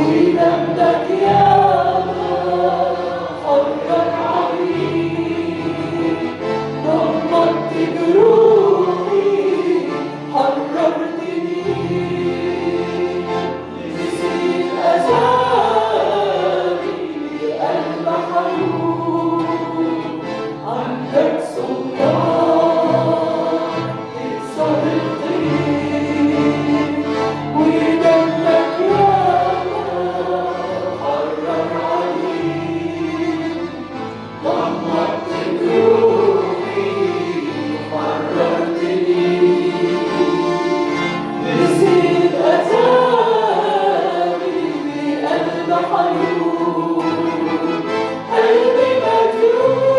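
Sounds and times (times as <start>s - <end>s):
group singing worship song: 0.0s - 49.9s
instrumental accompaniment: 0.0s - 49.9s.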